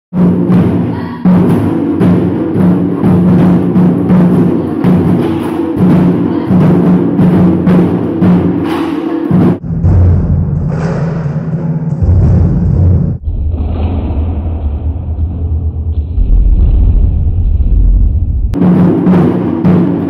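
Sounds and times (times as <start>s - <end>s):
taiko drumming: 0.2s - 20.0s.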